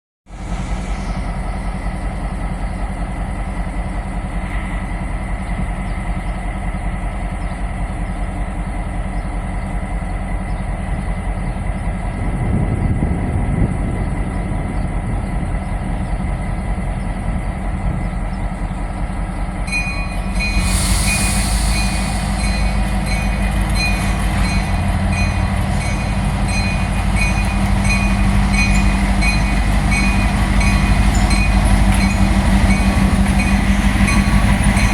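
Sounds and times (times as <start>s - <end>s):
diesel locomotive running: 0.3s - 34.9s.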